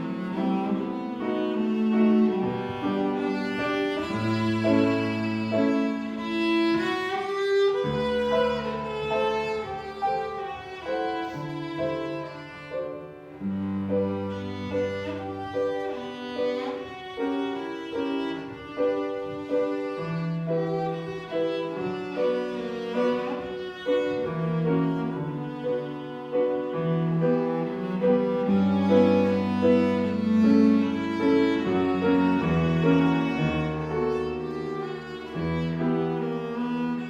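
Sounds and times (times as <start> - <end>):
cello melody: 0.0 - 37.0
piano accompaniment: 0.0 - 37.0.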